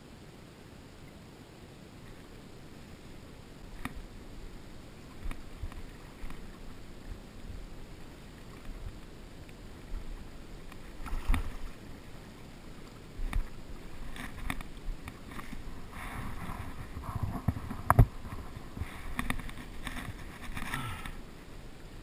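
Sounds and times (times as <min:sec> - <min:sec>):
water sloshing and splashing: 0:03.6 - 0:21.6.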